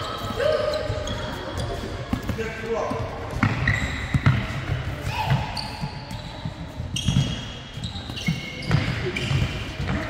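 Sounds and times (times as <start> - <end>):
sneakers squeaking on floor: 0.0 - 10.0
ball bouncing on court floor: 1.0 - 10.0.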